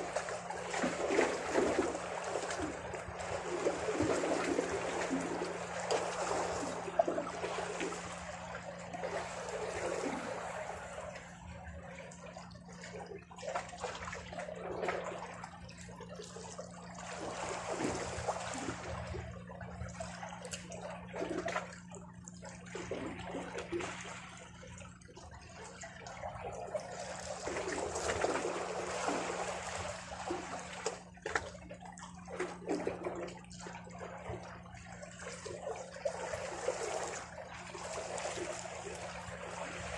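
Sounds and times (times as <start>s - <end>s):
steady low hum: 0.0s - 39.9s
water splashes: 0.0s - 39.9s.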